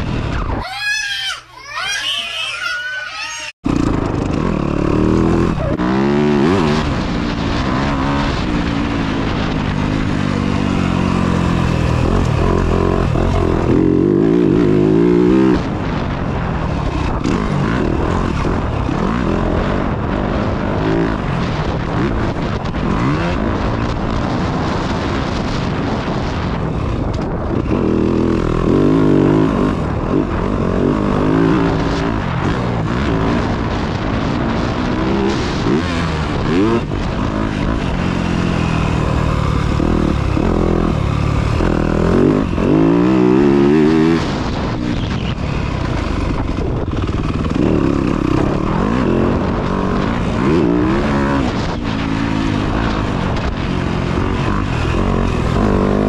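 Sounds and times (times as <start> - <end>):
dirt bike engine revving: 3.6 - 56.0.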